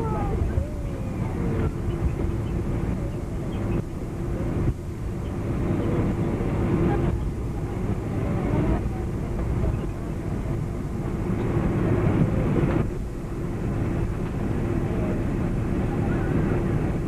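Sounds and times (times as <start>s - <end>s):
aircraft cabin engine rumble: 0.0s - 17.0s
steady hum: 0.0s - 17.0s.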